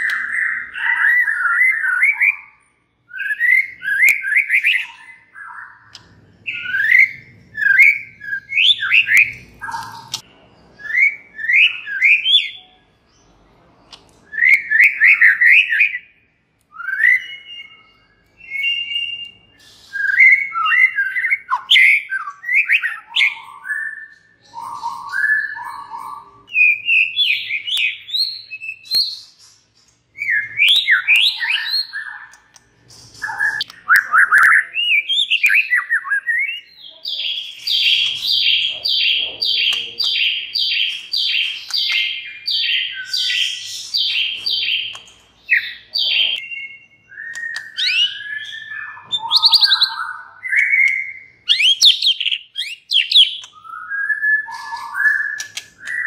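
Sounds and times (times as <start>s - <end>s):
songbird whistling song: 0.0s - 13.4s, 14.0s - 56.0s.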